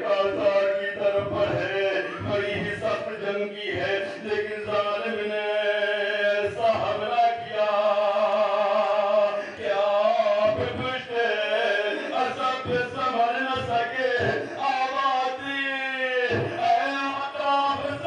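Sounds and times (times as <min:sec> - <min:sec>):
man chanting over loudspeaker: 0:00.0 - 0:18.0.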